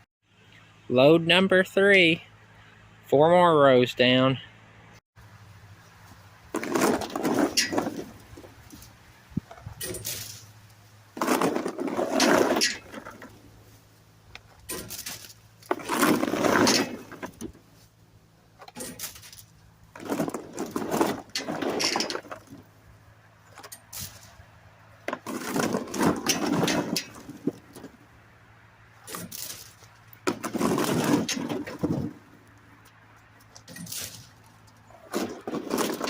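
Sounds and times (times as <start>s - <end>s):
dry corn stalks rustling: 5.2s - 36.0s.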